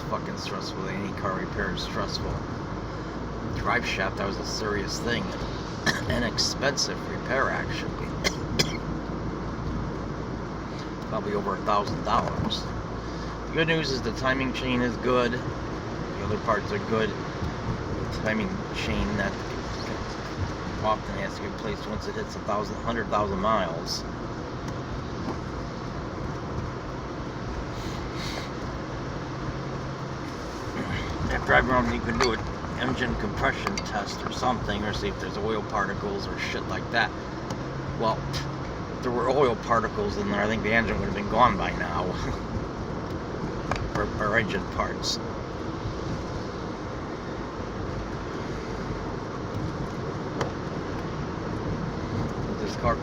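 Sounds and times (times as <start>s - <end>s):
car cabin road and engine noise: 0.0s - 53.0s.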